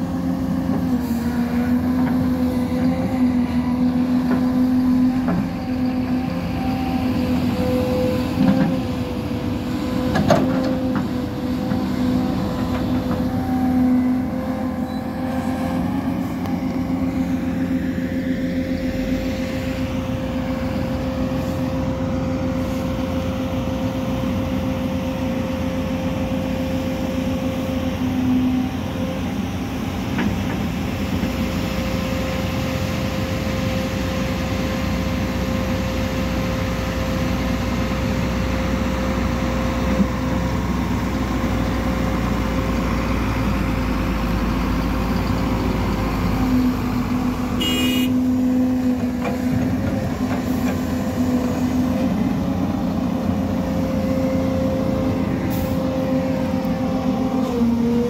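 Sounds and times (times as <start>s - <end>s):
heavy diesel machinery: 0.0s - 58.0s.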